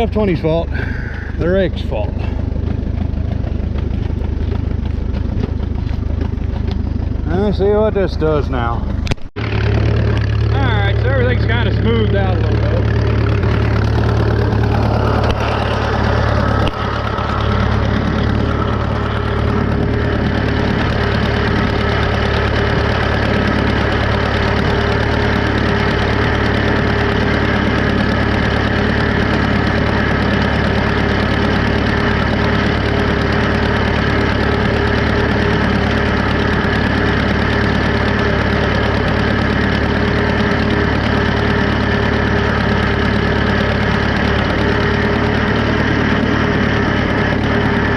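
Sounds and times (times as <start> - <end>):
engine knock: 0.0 - 47.9
tractor engine running: 0.0 - 47.9.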